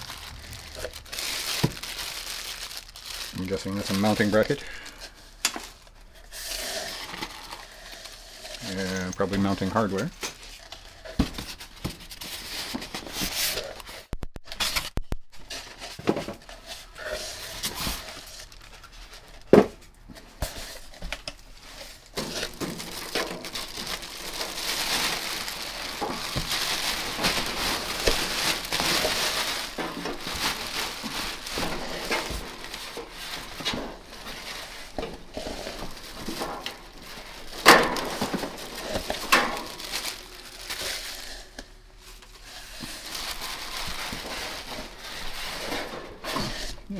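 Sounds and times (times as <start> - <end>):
plastic bag crinkling: 0.0 - 46.9
styrofoam and cardboard shuffling: 0.0 - 46.9.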